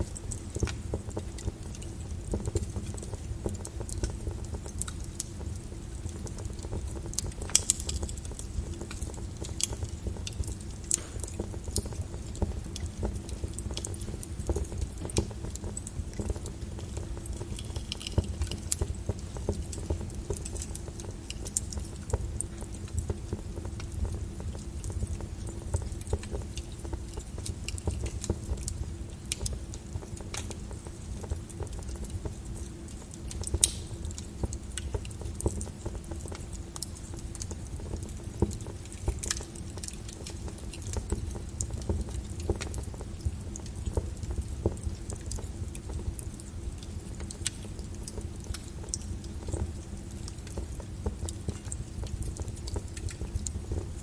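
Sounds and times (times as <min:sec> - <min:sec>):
rain pattering: 0:00.0 - 0:54.0
wood fire crackling and popping: 0:00.0 - 0:54.0.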